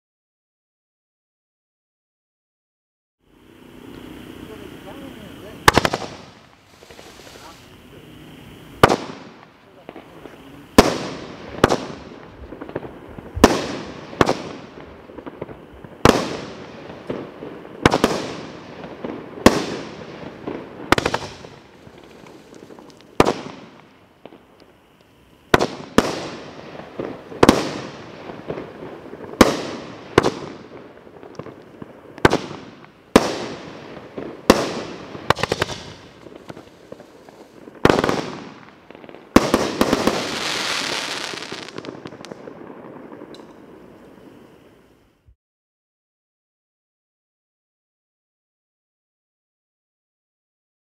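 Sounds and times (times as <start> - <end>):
fireworks bangs: 3.9 - 45.0.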